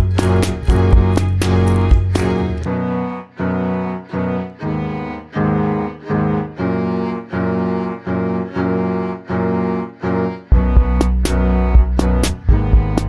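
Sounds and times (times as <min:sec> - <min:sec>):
low cello-like string notes: 0:00.0 - 0:13.0.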